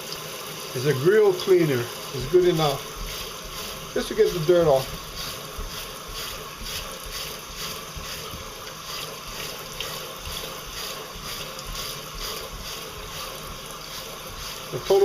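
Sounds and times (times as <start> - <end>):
brush scrubbing taro: 0.8 - 15.0.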